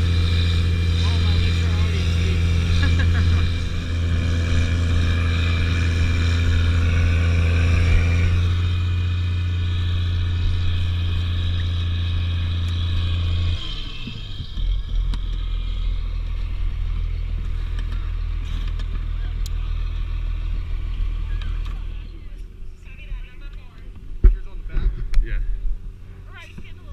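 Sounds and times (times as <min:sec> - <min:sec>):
snowcat engine running: 0:00.0 - 0:26.9.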